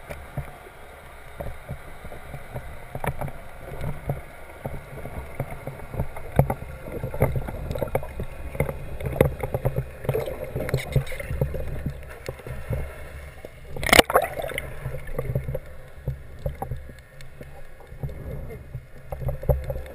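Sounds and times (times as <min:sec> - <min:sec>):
underwater low rumble: 0:00.0 - 0:19.9.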